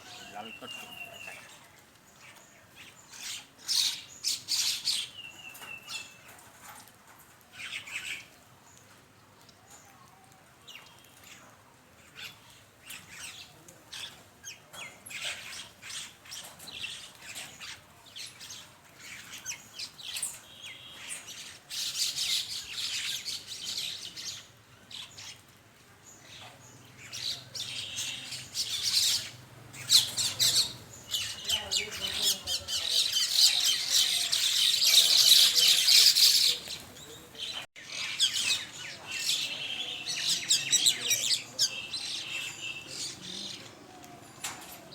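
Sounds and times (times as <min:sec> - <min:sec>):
birds squawking and chirping: 0:00.0 - 0:01.6, 0:02.2 - 0:06.4, 0:12.0 - 0:25.4, 0:26.1 - 0:44.9.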